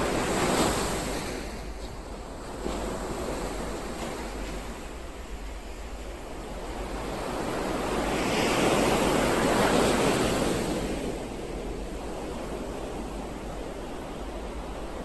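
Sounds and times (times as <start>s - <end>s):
ocean surf wave: 0.0s - 15.0s.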